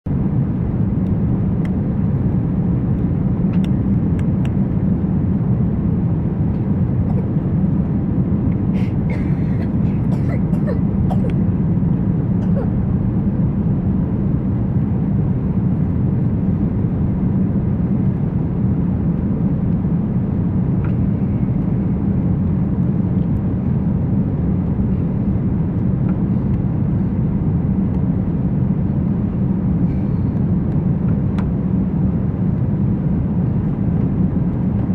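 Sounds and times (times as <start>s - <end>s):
airplane cabin engine roar: 0.1s - 34.9s.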